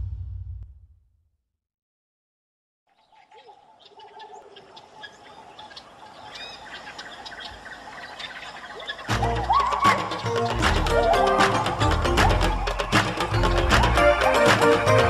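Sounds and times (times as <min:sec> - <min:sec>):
many birds chirping: 0:02.9 - 0:15.0.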